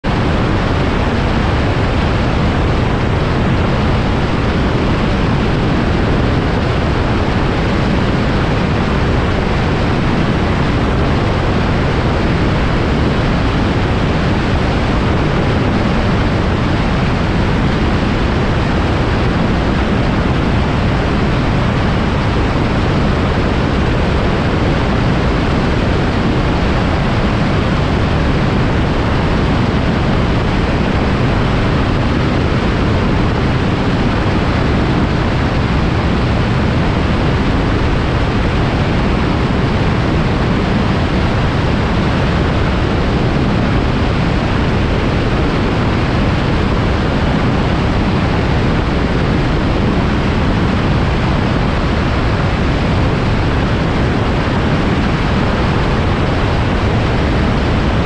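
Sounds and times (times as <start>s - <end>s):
microlight aircraft engine: 0.0s - 58.0s.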